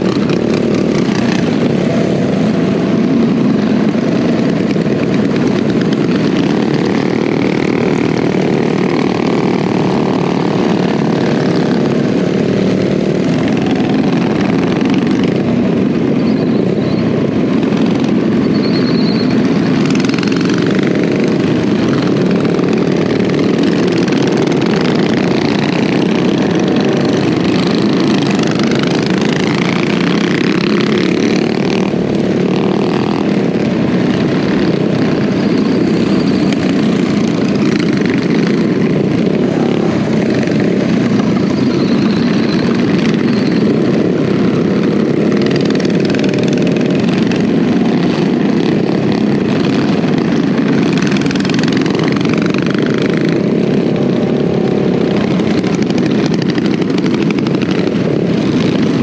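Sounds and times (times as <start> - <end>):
minibike engines droning: 0.0 - 59.0.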